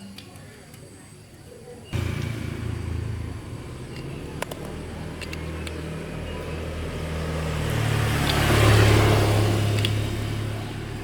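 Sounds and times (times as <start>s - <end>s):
vehicle engine running: 2.0s - 11.0s.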